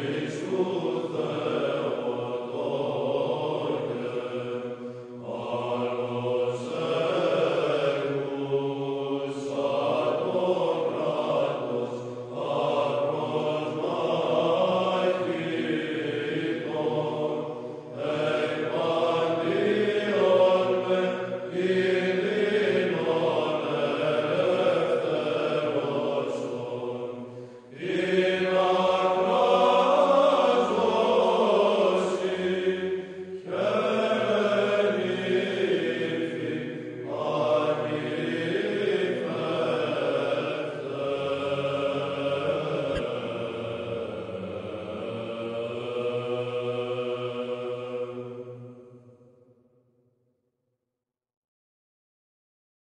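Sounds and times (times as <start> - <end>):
slow vocal chanting: 0.0 - 49.3.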